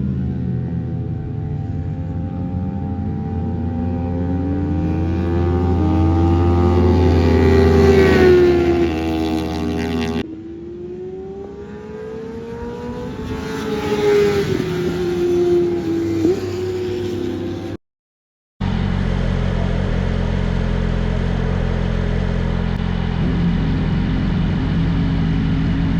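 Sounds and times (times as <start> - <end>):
motorcycle engine revving: 0.0 - 17.8, 18.6 - 25.9.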